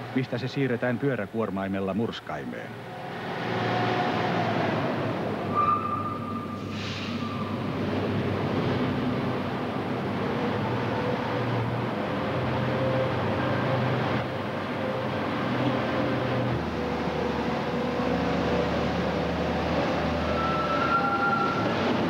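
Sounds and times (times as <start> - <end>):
loader engine drone: 2.1 - 22.0.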